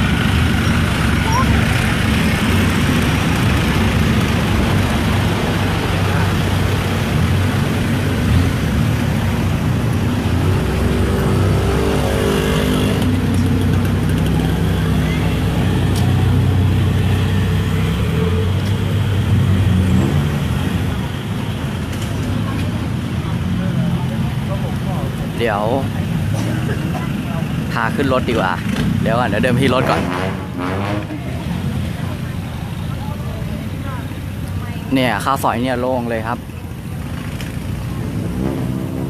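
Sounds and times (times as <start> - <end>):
car engines in slow traffic: 0.0 - 39.0
vehicle passing close: 0.0 - 39.0.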